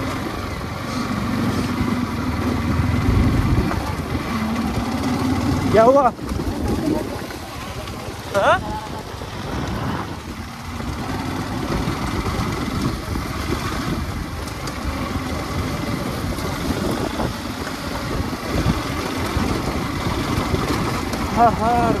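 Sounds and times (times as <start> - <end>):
gravel road noise: 0.0 - 22.0
motorcycle engine rumble: 0.0 - 22.0.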